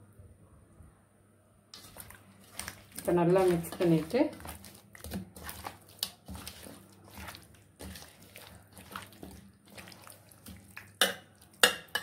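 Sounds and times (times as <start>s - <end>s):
hand squishing meat in marinade: 1.8s - 12.0s.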